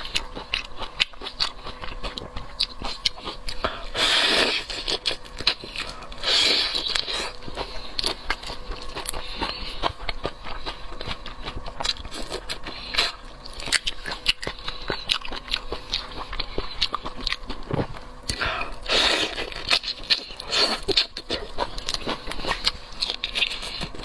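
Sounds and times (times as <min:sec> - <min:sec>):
crunching and chewing shrimp: 0:00.0 - 0:24.0.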